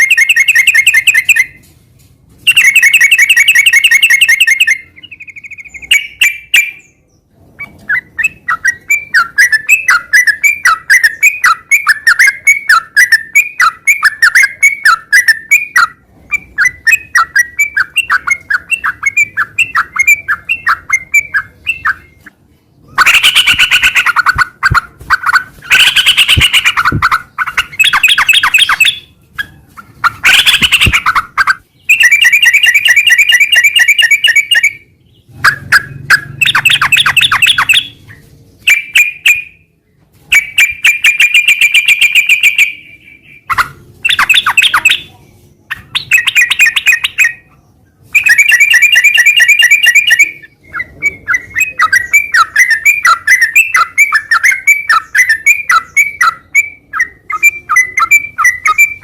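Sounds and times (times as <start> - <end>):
bird singing chattering phrases: 0.0 - 1.6, 2.5 - 59.0.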